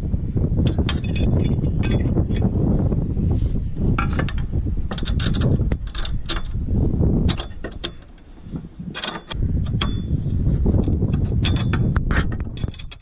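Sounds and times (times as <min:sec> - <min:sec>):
low rumble: 0:00.0 - 0:07.6, 0:08.3 - 0:12.9.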